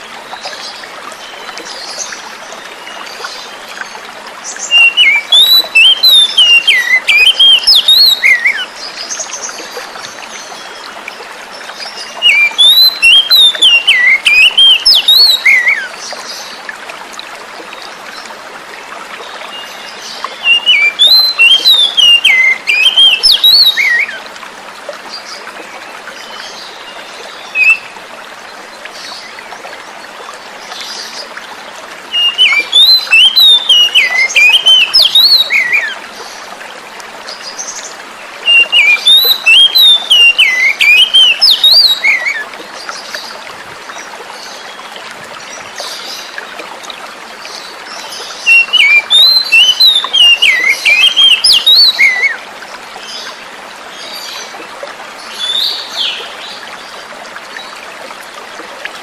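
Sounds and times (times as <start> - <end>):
songbird singing: 0.0 - 16.7, 19.2 - 24.3, 25.2 - 36.5, 37.2 - 57.7
running water: 0.0 - 59.0.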